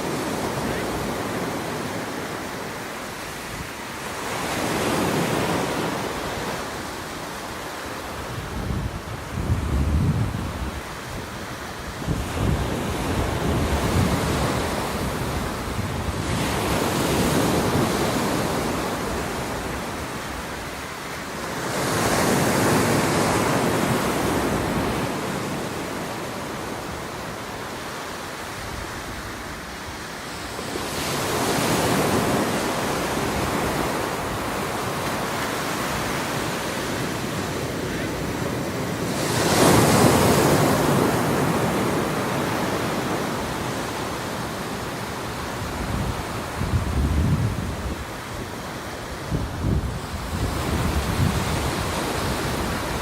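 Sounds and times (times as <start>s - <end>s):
waves breaking: 0.0s - 53.0s.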